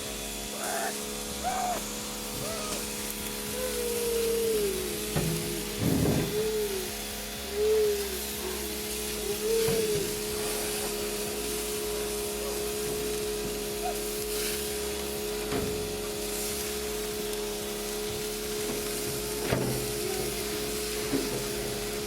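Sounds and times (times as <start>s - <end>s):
hamburgers sizzling on grill: 0.0s - 22.0s.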